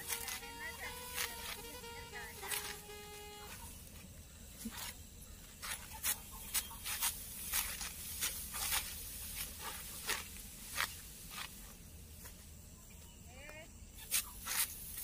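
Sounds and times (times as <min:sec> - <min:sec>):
sickle cutting rice stalks: 0:00.0 - 0:12.5, 0:14.0 - 0:15.0.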